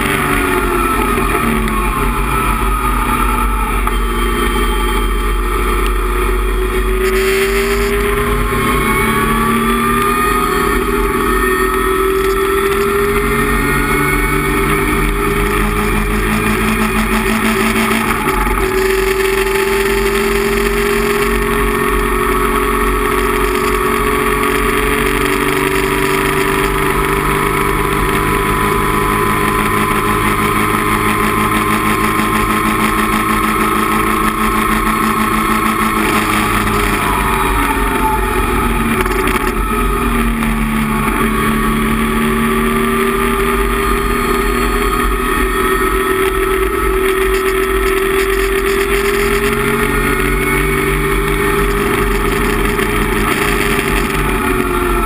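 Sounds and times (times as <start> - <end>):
race car engine at high revs: 0.0 - 55.0
road and wind noise: 0.0 - 55.0.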